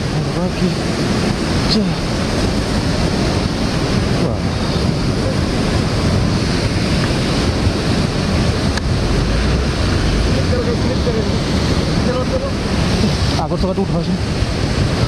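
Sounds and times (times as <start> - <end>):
flooded river rushing: 0.0 - 15.0
wind buffeting microphone: 0.0 - 15.0.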